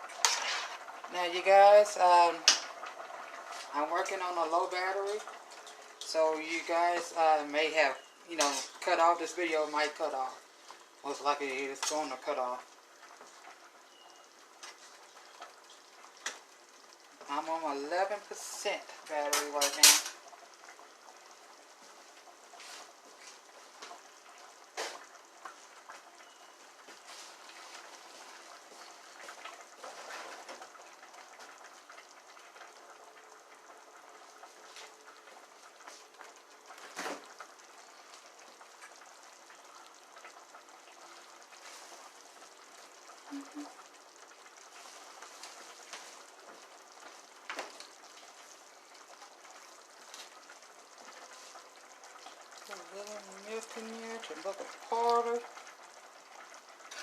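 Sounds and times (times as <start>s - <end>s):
food bubbling and sizzling in pan: 0.0s - 57.0s.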